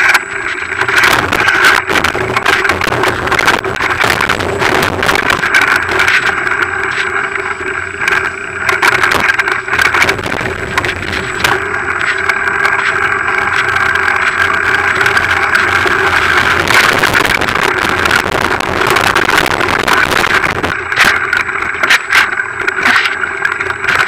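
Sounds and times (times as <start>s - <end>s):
bicycle tyres rumbling on trail: 0.0s - 24.0s
steady whirring tone: 0.0s - 24.0s.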